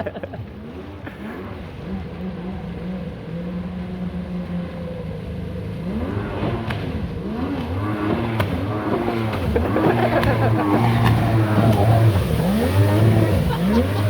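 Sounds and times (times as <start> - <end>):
jet ski engine revving: 0.0 - 14.0.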